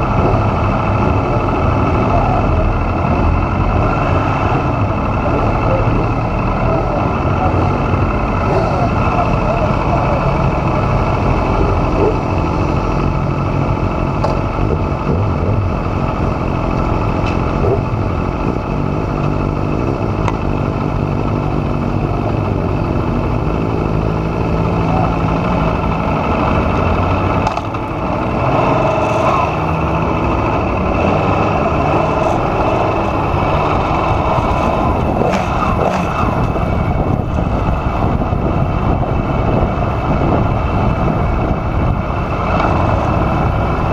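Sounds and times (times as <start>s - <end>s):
motorcycle engine running hard: 0.0s - 43.9s.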